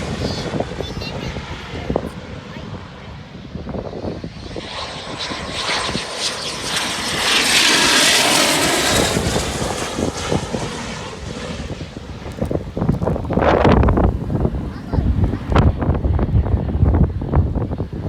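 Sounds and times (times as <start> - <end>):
jet engine rushing: 0.0 - 18.0.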